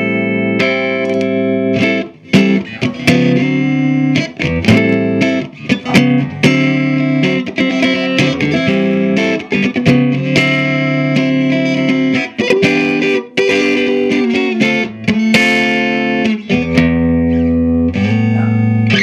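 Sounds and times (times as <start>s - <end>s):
overdriven electric guitar chords: 0.0s - 19.0s.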